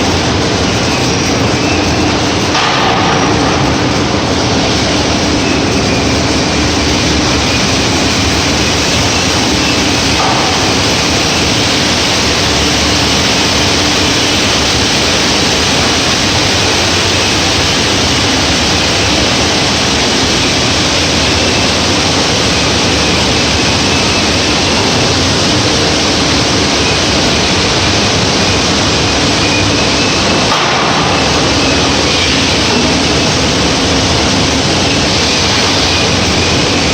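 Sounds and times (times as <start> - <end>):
packaging machinery running: 0.0 - 36.9.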